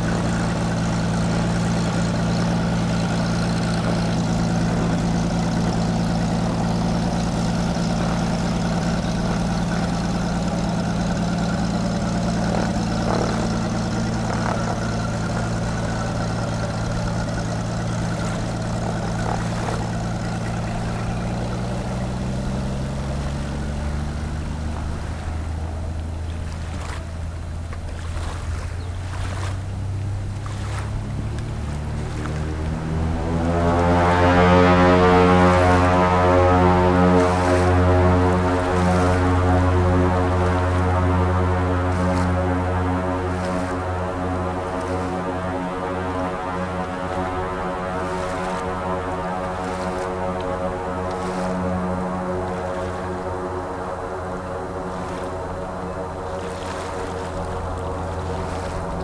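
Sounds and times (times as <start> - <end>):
floatplane engine and propeller: 0.0 - 59.0.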